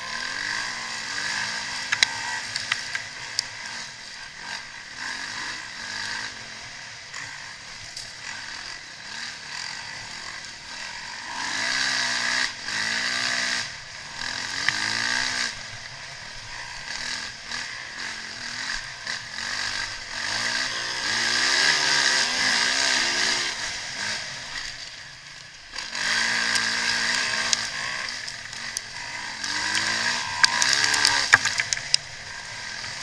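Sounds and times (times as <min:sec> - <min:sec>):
motocross engines revving: 0:00.0 - 0:33.0.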